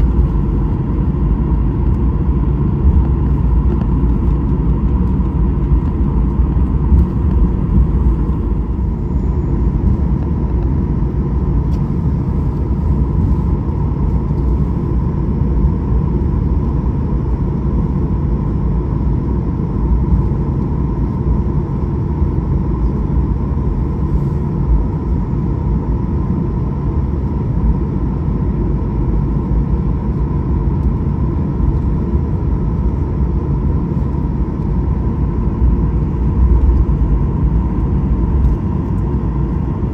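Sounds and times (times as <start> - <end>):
airplane cabin engine rumble: 0.0 - 39.9
faint steady hum: 0.0 - 39.9.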